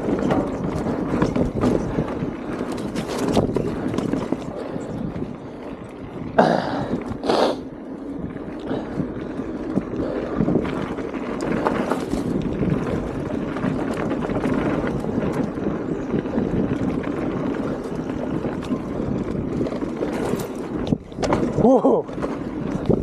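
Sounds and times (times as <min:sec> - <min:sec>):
bike rattles and ticks: 0:00.0 - 0:23.0
tyre noise on dirt: 0:00.0 - 0:23.0
wind rush on microphone: 0:00.0 - 0:23.0.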